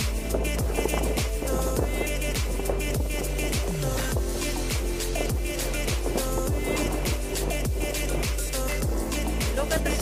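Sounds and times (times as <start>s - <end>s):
deep bass drum hits: 0.0s - 10.0s
held bass notes: 0.0s - 10.0s
ticking cymbals: 0.0s - 10.0s.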